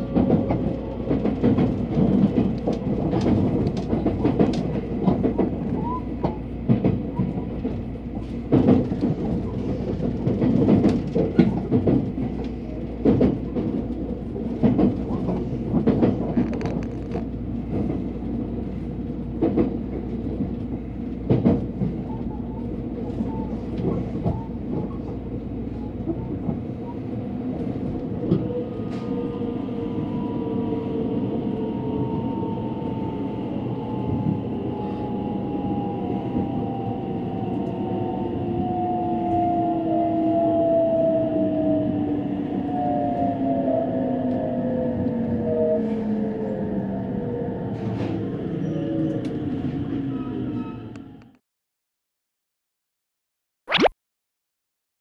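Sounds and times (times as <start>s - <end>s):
train low rumble: 0.0s - 51.3s.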